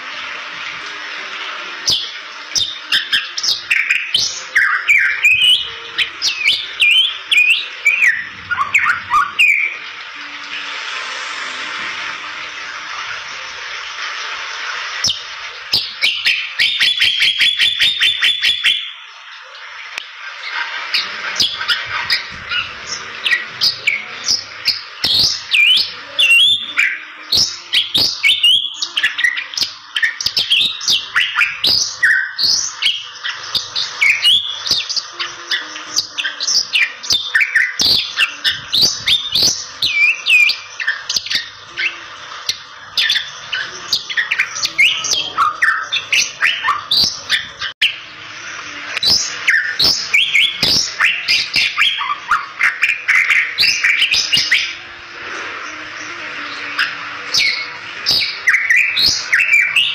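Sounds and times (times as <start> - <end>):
bird singing whistles and chirps: 1.8 - 9.8, 15.0 - 19.1, 20.9 - 48.0, 48.9 - 54.9, 56.5 - 59.9.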